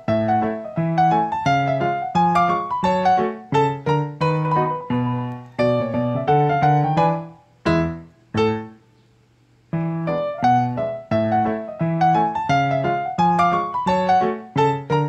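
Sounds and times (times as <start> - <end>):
piano music: 0.0 - 8.8, 9.8 - 15.0.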